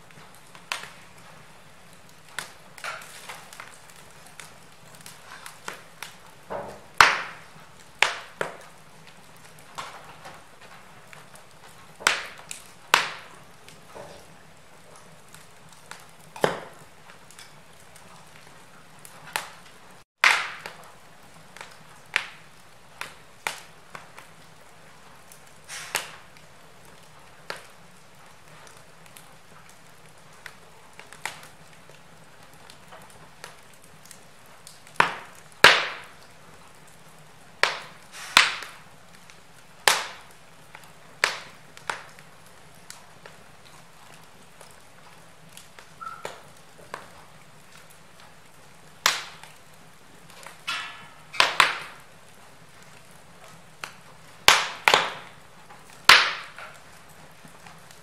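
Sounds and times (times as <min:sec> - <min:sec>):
faint steady hiss: 0:00.0 - 0:58.0
logs popping and snapping in fire: 0:00.0 - 0:58.0.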